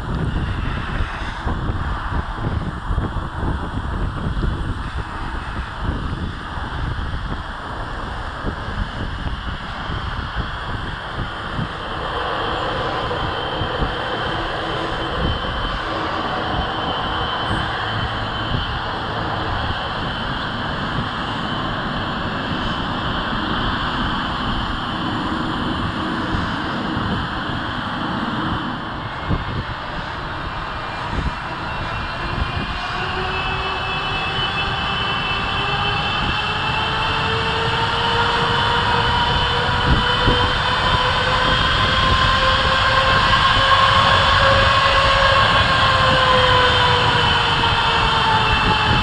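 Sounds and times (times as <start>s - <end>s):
faint high jet whine: 0.0s - 49.0s
jet engine rumble: 0.0s - 49.0s.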